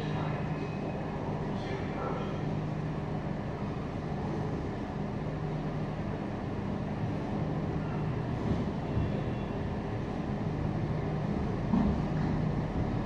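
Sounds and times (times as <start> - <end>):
train approaching with low hum: 0.0 - 13.0.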